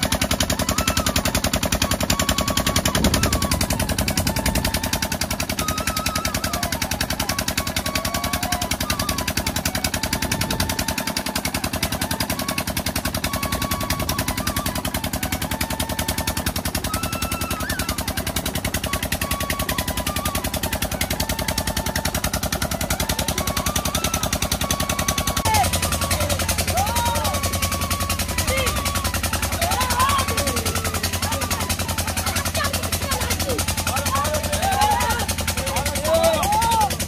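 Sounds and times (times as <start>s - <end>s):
faint wandering melody: 0.0s - 37.0s
pump engine chugging: 0.0s - 37.0s.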